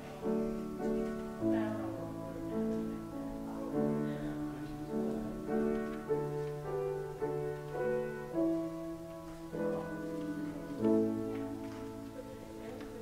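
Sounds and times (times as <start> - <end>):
slow instrumental keyboard music: 0.0 - 13.0.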